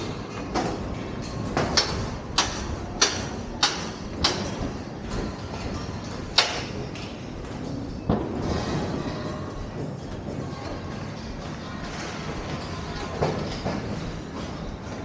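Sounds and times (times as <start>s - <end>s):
steady noisy background: 0.0s - 15.0s.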